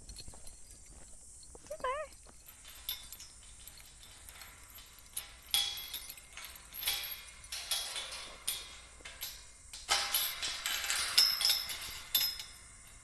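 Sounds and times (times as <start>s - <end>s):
light metallic clinks: 0.0s - 13.0s.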